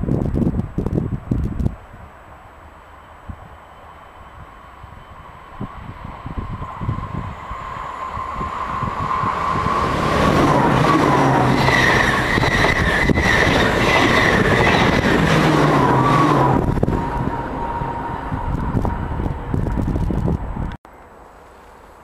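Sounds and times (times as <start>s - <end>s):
electric train passing at speed: 0.1s - 21.9s.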